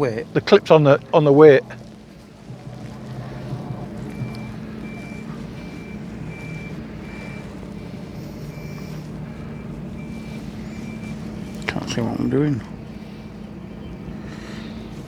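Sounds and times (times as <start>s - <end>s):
low engine hum: 0.0s - 15.0s
vehicle reversing alarm beeping: 0.0s - 15.0s.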